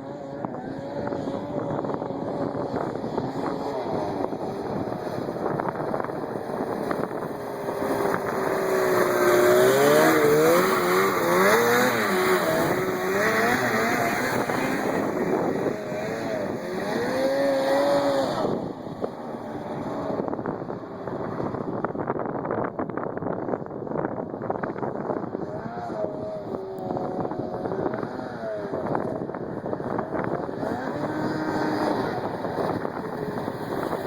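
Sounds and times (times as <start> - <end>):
snowmobile engine revving: 0.0 - 22.0, 24.3 - 34.0.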